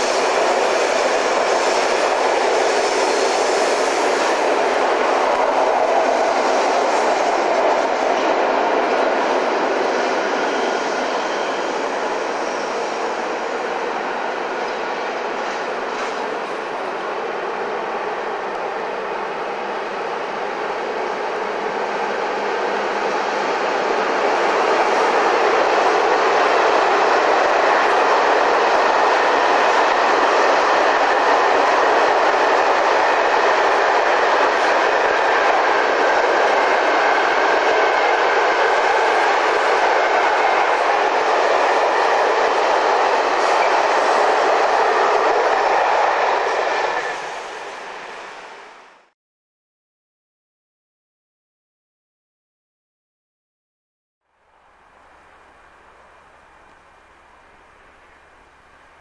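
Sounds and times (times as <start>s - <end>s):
freight train wheels rolling on rail: 0.0s - 49.1s.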